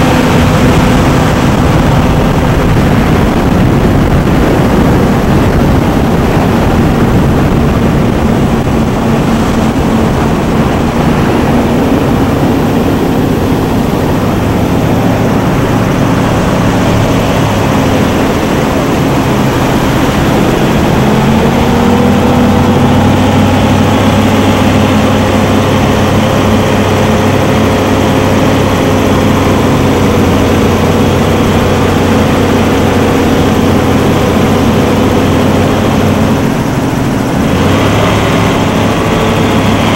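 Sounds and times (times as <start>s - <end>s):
powerboat engines running: 0.0s - 39.9s.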